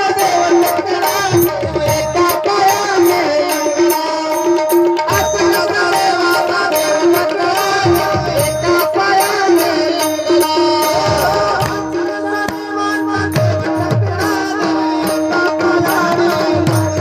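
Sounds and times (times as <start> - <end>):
jingling hand percussion: 0.0 - 17.0
tabla rhythm: 0.0 - 17.0.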